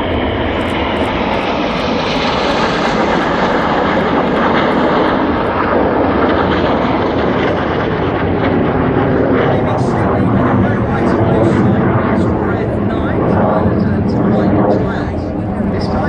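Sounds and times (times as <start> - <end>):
jets passing: 0.0 - 16.0.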